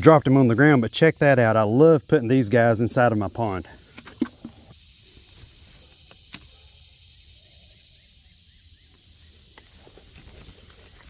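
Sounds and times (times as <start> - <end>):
high insect hum: 0.0 - 11.0.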